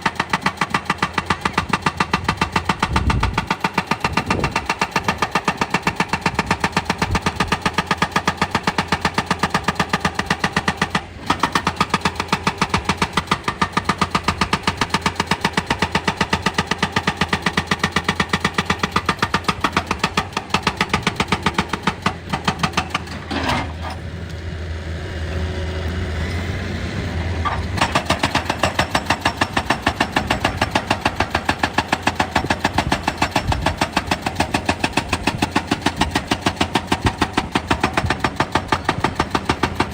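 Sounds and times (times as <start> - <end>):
hydraulic rock breaker hammering stone: 0.0 - 24.0, 27.4 - 39.9
excavator diesel engine: 0.0 - 39.9.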